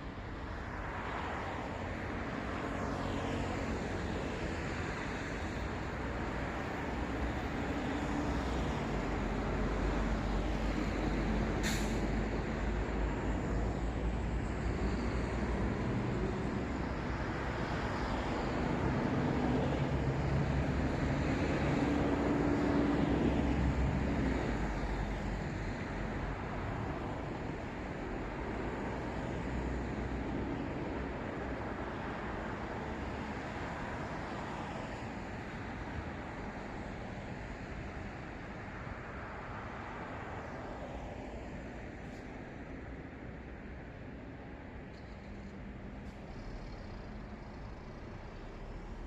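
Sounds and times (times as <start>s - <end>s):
traffic passing: 0.0s - 49.0s.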